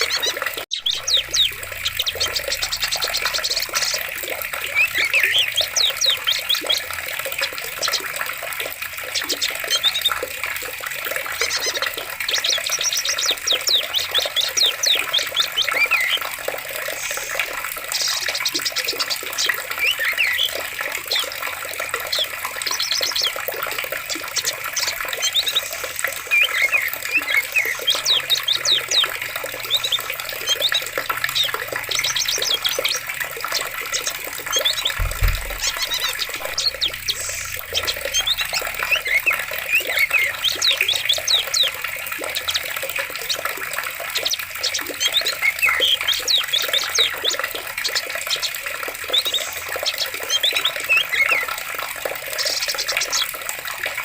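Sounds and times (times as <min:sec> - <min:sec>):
flowing water: 0:00.0 - 0:54.0
small birds chirping and trilling: 0:00.0 - 0:54.0.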